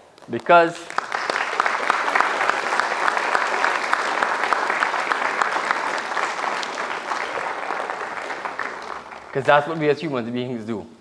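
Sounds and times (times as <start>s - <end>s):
audience applauding: 0.4s - 10.1s.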